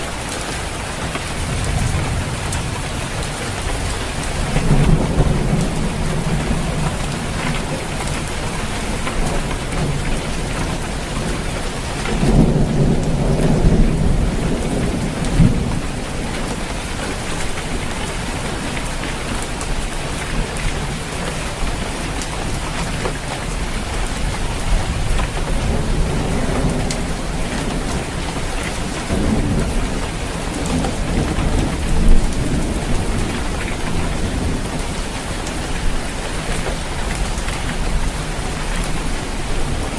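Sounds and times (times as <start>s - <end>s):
low thunder rumbles: 0.0s - 21.2s, 21.8s - 39.9s
rain falling on a roof: 0.0s - 39.9s.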